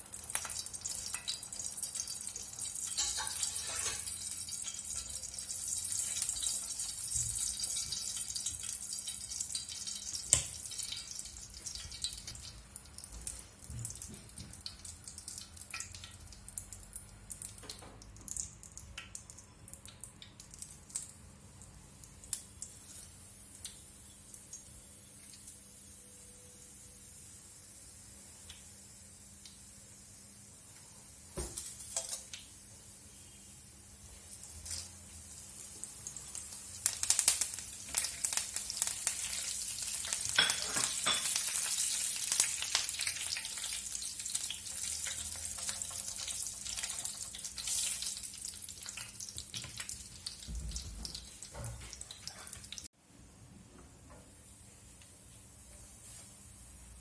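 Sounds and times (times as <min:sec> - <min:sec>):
food sizzling in hot oil: 0:00.0 - 0:52.9, 0:55.7 - 0:57.0.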